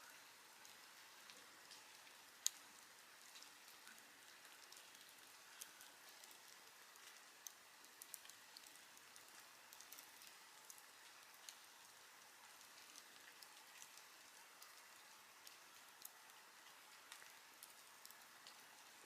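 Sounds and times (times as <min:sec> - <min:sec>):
campfire crackling and popping: 0:00.6 - 0:19.0.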